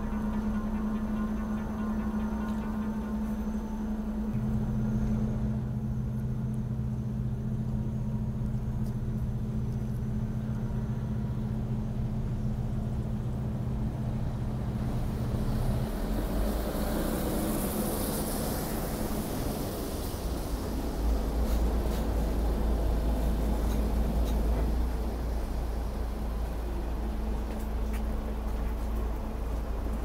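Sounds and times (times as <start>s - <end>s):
tram electric hum: 0.0s - 30.0s
tram rumble: 0.0s - 30.0s.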